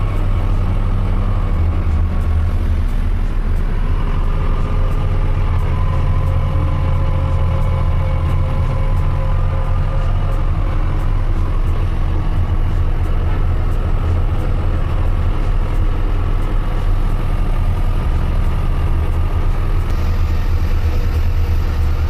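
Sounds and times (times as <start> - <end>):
truck diesel engine rumble: 0.0 - 22.0.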